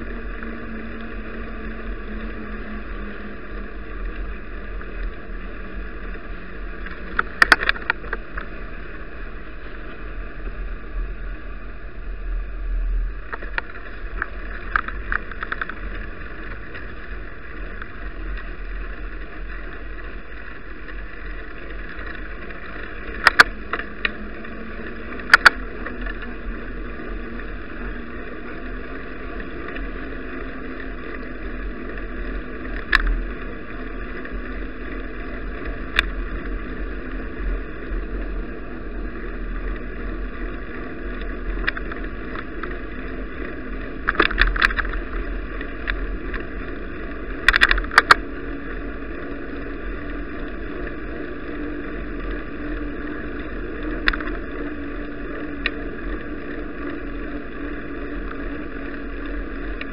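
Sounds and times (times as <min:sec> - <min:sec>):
wind and riding rumble: 0:00.0 - 0:59.9.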